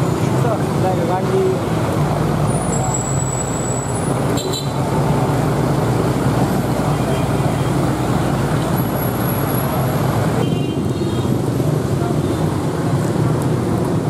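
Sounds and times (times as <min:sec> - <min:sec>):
motorbikes and cars passing: 0:00.0 - 0:14.0.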